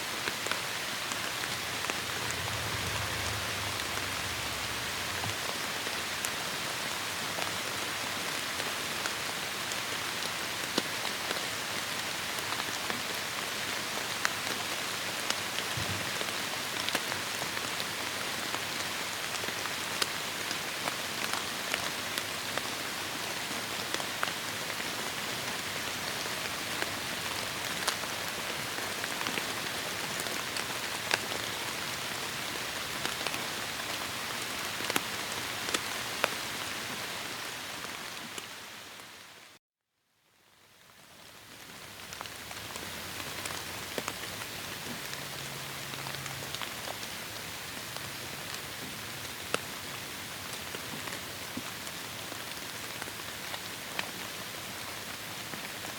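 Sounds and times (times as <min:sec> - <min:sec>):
heavy rain on foliage: 0:00.0 - 0:39.6, 0:40.4 - 0:55.9
raindrops striking close by: 0:00.1 - 0:39.4, 0:40.4 - 0:55.9.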